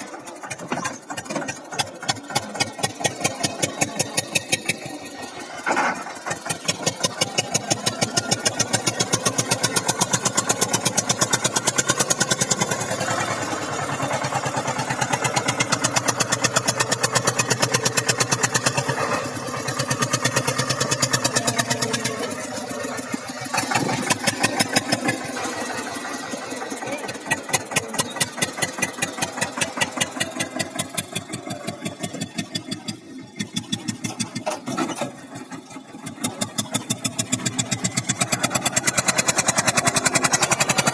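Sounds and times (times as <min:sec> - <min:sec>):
tractor diesel engine chugging: 0:00.0 - 0:40.9.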